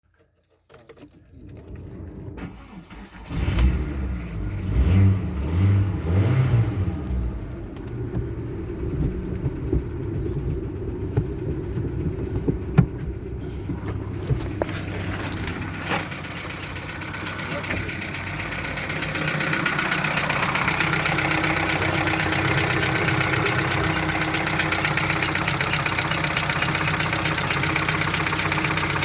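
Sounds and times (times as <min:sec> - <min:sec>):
car engine starting and revving: 0:01.4 - 0:29.0
car engine idling: 0:02.4 - 0:29.0.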